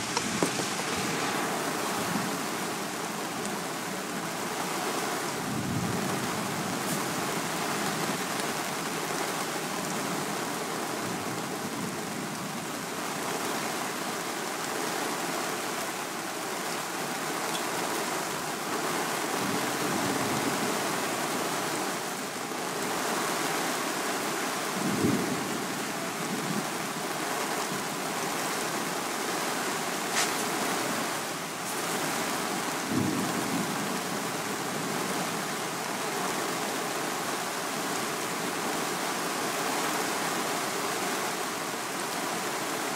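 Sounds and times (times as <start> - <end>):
heavy rain hissing: 0.0 - 42.9.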